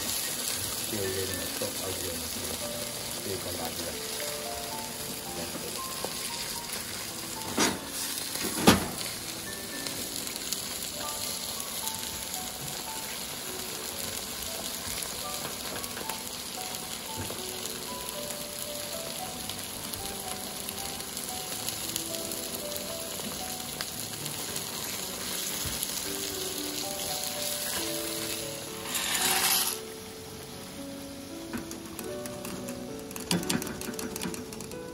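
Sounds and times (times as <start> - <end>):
bacon sizzling in a pan: 0.0 - 34.9.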